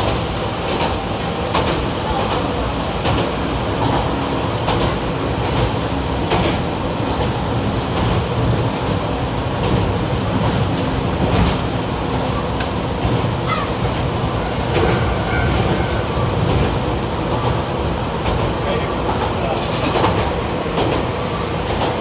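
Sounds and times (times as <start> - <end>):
railcar engine and wheels rumbling: 0.0 - 22.0.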